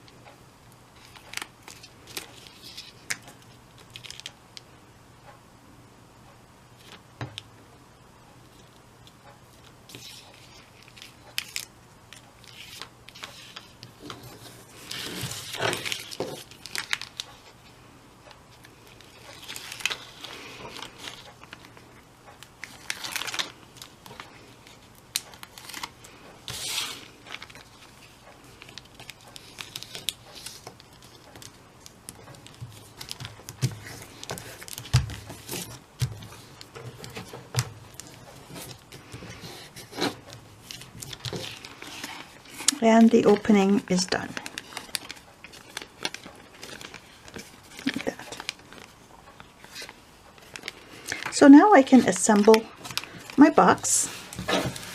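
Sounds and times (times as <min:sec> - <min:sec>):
paper and plastic crinkling: 0:01.0 - 0:04.4, 0:09.6 - 0:17.6, 0:18.6 - 0:54.9.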